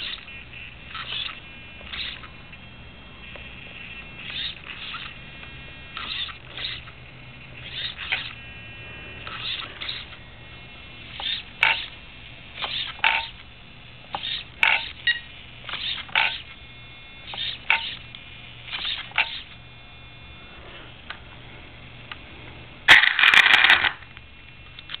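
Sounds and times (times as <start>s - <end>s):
rc truck steering servo whining: 0.0s - 21.2s, 22.1s - 24.2s.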